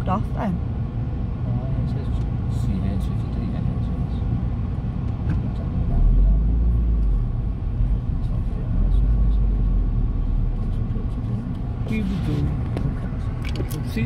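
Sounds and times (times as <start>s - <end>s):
car rolling rumble from inside: 0.0s - 14.0s.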